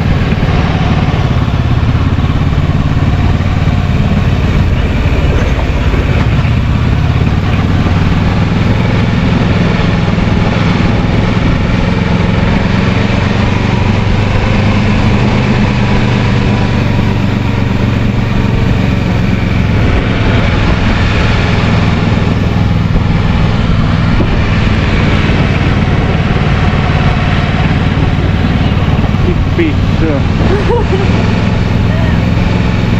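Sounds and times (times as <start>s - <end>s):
motorcycle engine running: 0.0s - 32.9s
steady rushing noise: 0.0s - 32.9s.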